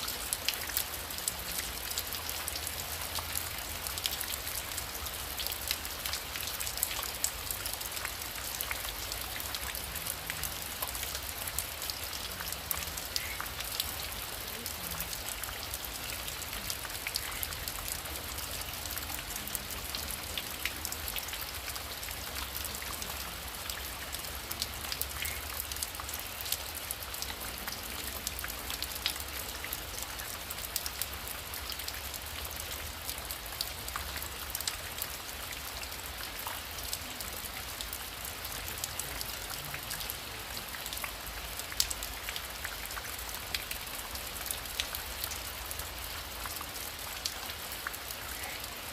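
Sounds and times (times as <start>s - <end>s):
heavy rain: 0.0s - 48.9s
raindrops ticking: 0.0s - 48.9s.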